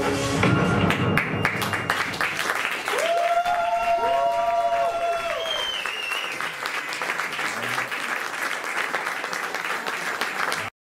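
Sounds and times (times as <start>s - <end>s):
audience applauding: 0.8s - 10.8s.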